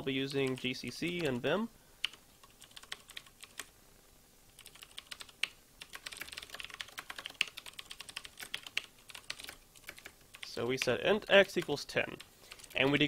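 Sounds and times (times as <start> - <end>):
keyboard typing: 0.4 - 1.4, 2.0 - 3.7, 4.5 - 13.0.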